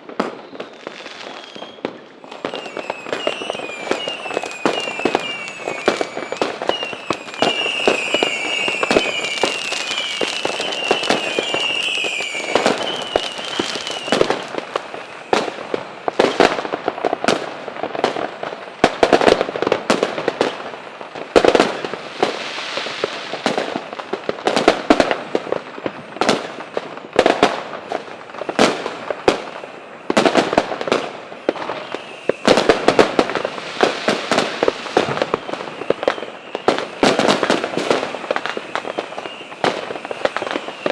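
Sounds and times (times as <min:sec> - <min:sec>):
firework wavering whistle: 0:00.0 - 0:40.9
fireworks bangs and crackles: 0:00.0 - 0:40.9.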